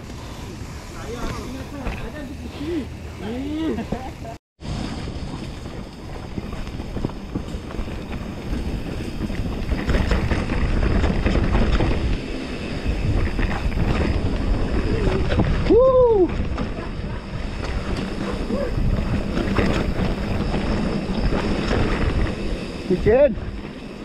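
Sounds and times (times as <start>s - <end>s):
bike rattling over bumps: 0.0s - 24.0s
wind rushing over camera: 4.6s - 24.0s.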